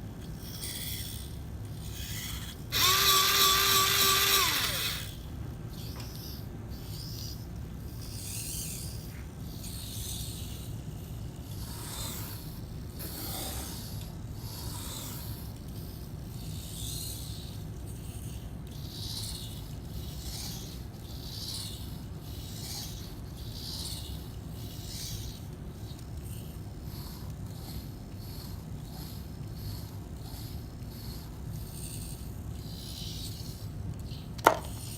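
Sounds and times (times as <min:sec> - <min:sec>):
pencil scratching strokes: 0:00.0 - 0:05.2, 0:05.8 - 0:34.9
steady low hum: 0:00.0 - 0:34.9.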